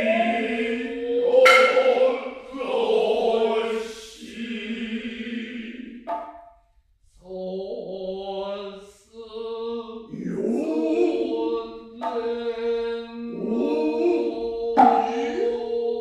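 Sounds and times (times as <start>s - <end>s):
men chanting: 0.0s - 6.1s, 7.2s - 16.0s.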